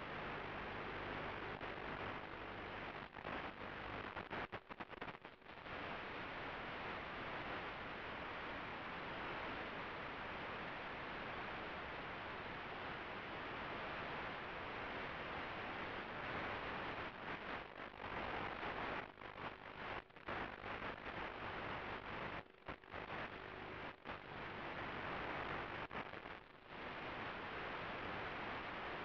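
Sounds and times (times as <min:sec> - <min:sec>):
steady static hiss: 0:00.0 - 0:29.0.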